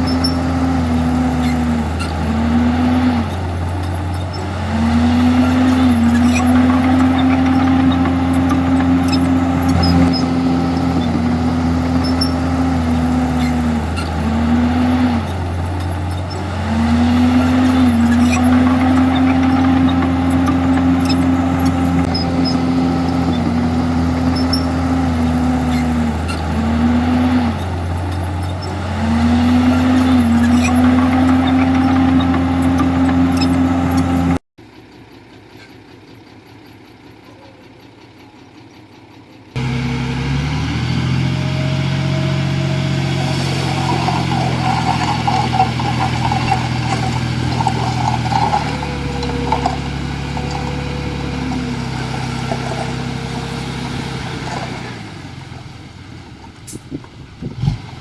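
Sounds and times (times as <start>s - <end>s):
crackling grinding noise: 0.0s - 34.4s, 41.0s - 58.0s
heavy diesel engine running: 0.0s - 34.4s, 39.5s - 58.0s.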